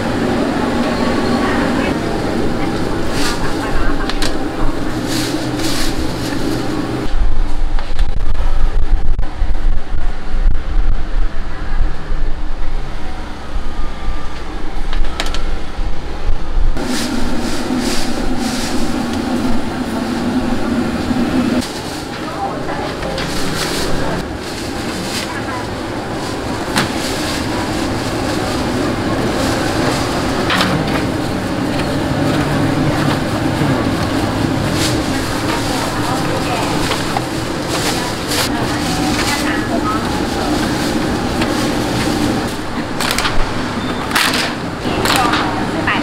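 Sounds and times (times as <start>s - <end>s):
steady low rumble: 0.0s - 43.8s
busy food stall noise: 0.0s - 46.0s
low machine hum: 0.0s - 46.0s.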